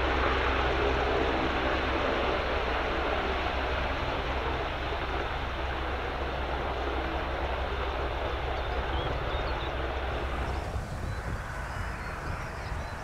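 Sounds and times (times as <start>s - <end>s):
helicopter engine and rotor noise: 0.0s - 13.0s.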